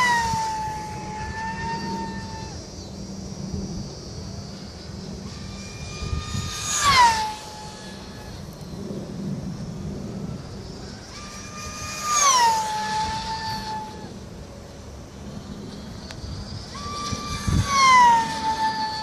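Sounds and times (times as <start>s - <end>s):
model plane motor whining past: 0.0s - 19.0s.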